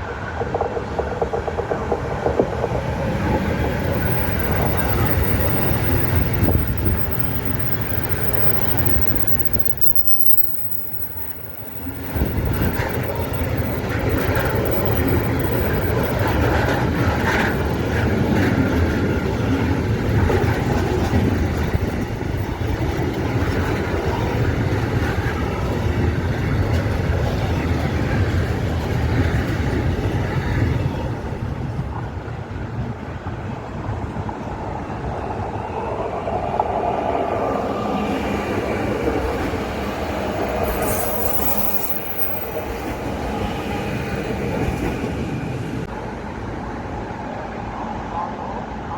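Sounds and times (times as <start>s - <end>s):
train wheels rumbling: 0.0s - 46.7s.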